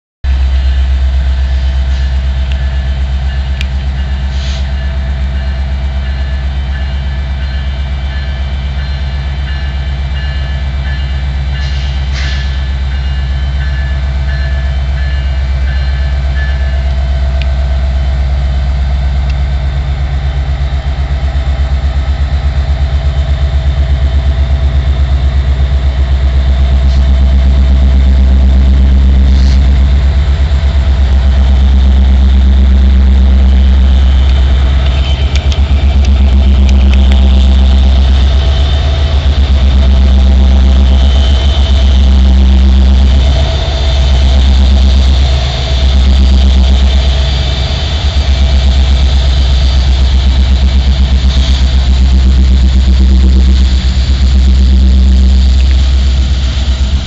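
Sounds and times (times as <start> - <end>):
locomotive diesel engine throbbing: 0.2 - 57.0.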